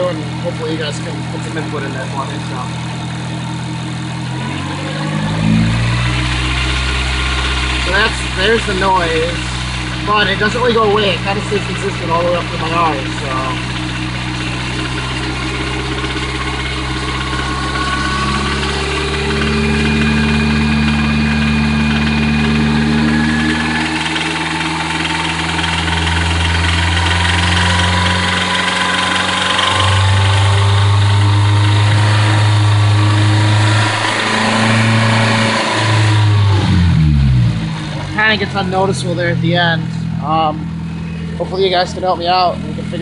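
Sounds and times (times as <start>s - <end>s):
car engine running: 0.0s - 43.0s
engine tapping: 0.0s - 43.0s.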